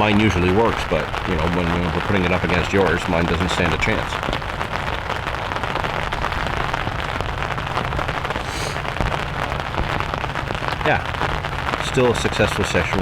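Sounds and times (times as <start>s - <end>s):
raindrop hits: 0.0s - 13.0s
steady rain falling: 0.0s - 13.0s.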